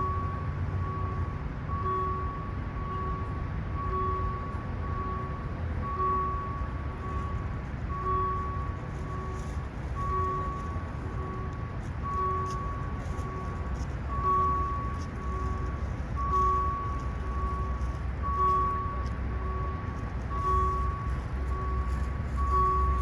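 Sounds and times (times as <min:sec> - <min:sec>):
steady low rumble: 0:00.0 - 0:23.0
train warning beeper: 0:00.0 - 0:23.0.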